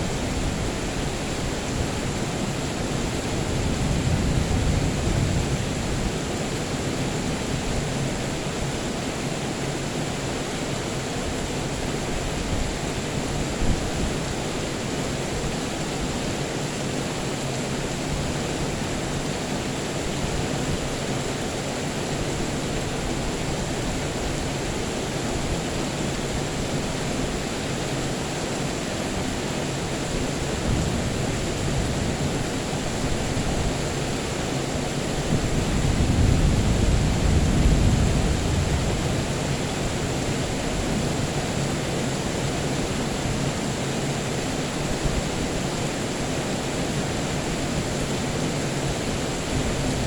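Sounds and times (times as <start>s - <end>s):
steady rain hiss: 0.0s - 50.0s.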